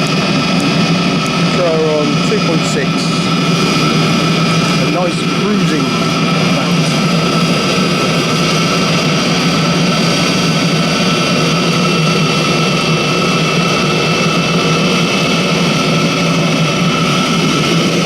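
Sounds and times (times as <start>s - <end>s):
heater blower whining: 0.0s - 18.0s
rush of burning: 0.0s - 18.0s.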